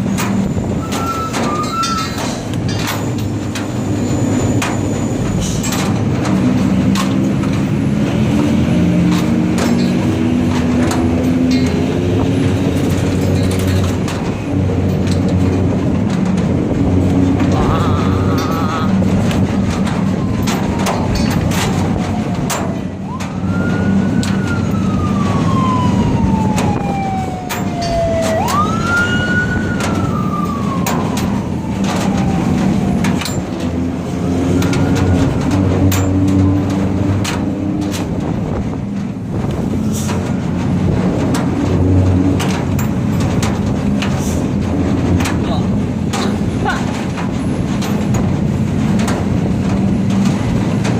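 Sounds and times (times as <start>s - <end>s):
vehicle siren wailing: 0.4s - 2.4s, 3.0s - 43.2s
truck engine running: 2.1s - 50.9s.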